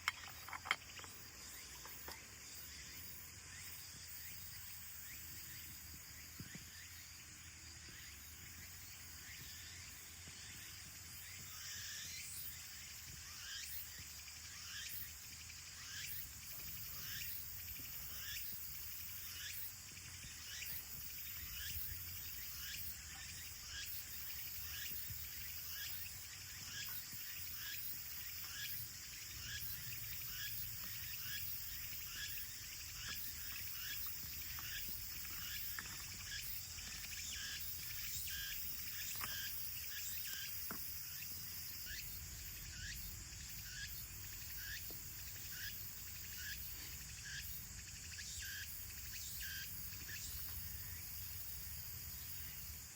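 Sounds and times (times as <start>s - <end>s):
high-pitched insect drone: 0.0s - 52.9s
insects chirping: 0.0s - 52.9s.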